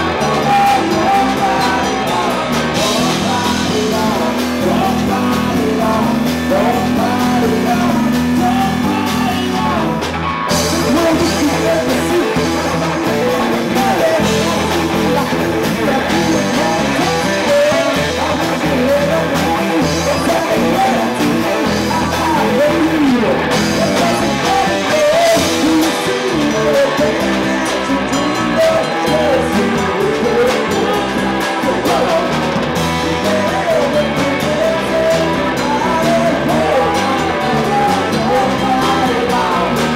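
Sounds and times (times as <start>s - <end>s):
bass guitar: 0.0s - 39.9s
drum kit: 0.0s - 39.9s
electric guitar: 0.0s - 39.9s
man singing into a microphone: 0.0s - 39.9s.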